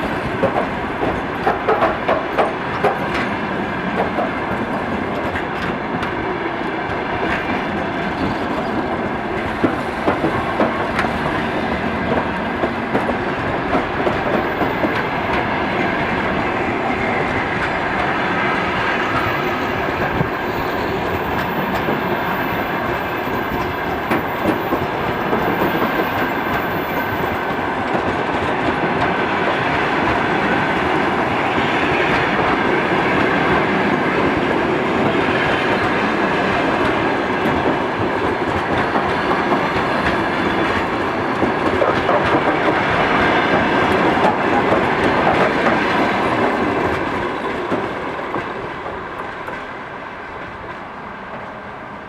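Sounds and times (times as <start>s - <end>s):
train wheels clicking over rail joints: 0.0s - 6.2s, 6.9s - 51.5s.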